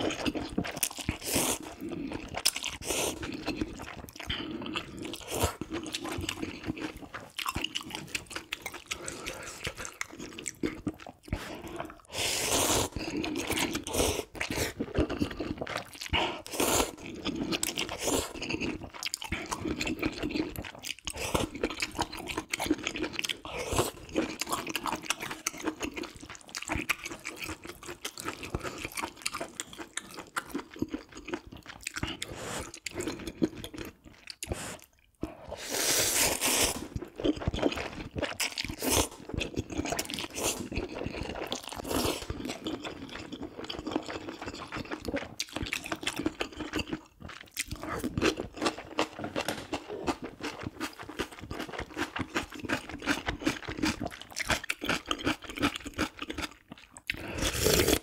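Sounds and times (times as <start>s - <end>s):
person chewing and crunching food: 0.0s - 58.0s.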